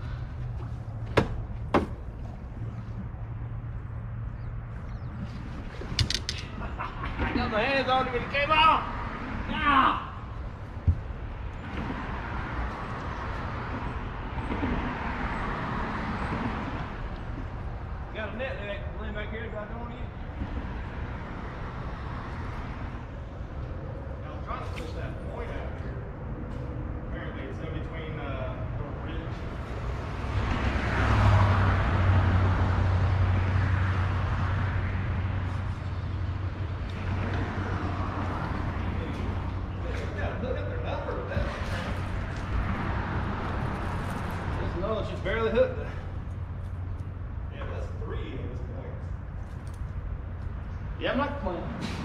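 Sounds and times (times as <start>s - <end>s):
traffic tyre and engine hiss: 0.0s - 52.0s.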